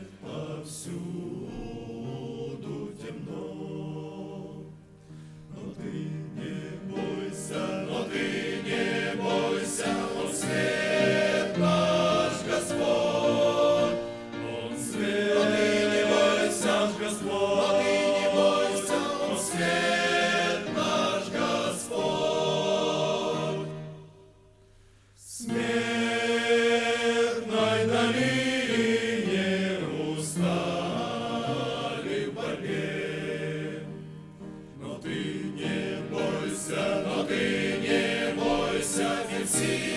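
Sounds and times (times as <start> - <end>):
choir singing: 0.0 - 24.6, 25.2 - 39.9.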